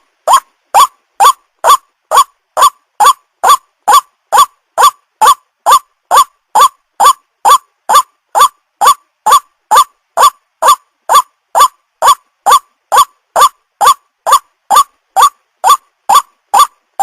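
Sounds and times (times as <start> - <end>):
waterhen calling: 0.2 - 16.7.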